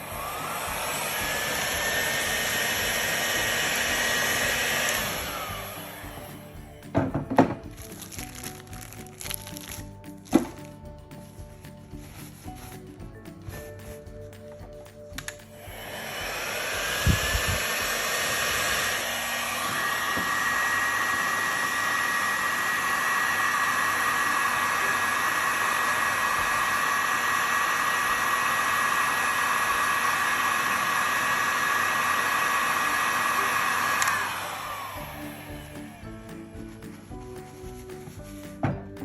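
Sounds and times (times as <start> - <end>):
heat gun fan whining: 0.0 - 38.7.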